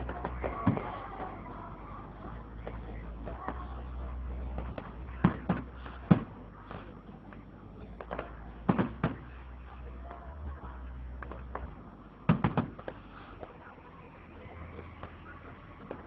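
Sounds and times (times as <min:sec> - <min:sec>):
fireworks bursting: 0:00.0 - 0:10.4, 0:11.0 - 0:16.0
quieter fireworks pops: 0:00.0 - 0:16.0.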